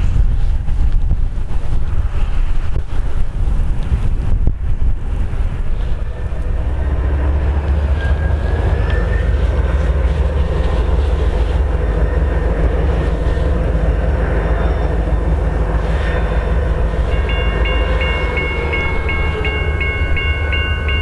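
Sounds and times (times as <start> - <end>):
locomotive engine rumbling: 0.0 - 21.0.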